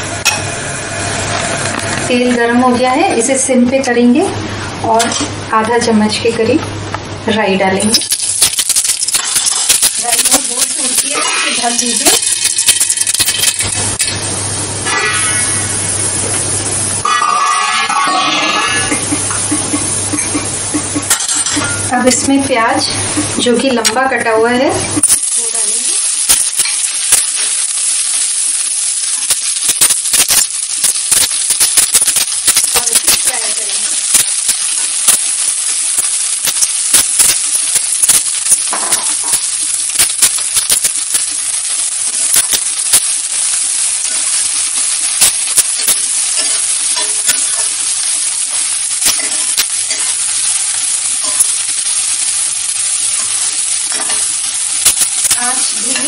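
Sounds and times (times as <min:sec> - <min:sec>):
onions sizzling in hot oil: 0:00.0 - 0:56.0.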